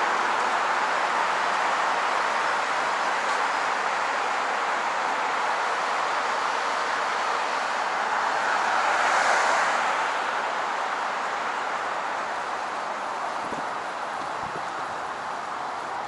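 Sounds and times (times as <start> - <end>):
passing vehicles hissing: 0.0 - 16.0.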